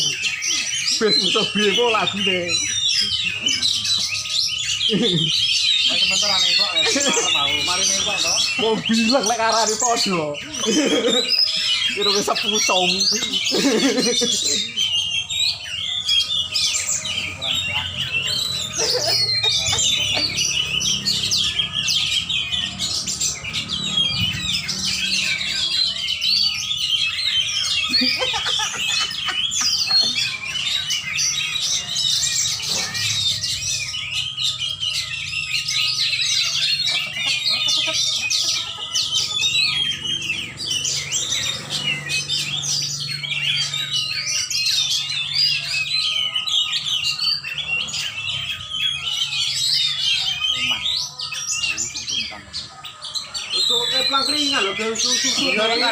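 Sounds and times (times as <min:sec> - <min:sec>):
caged songbirds chirping and trilling: 0:00.0 - 0:55.9.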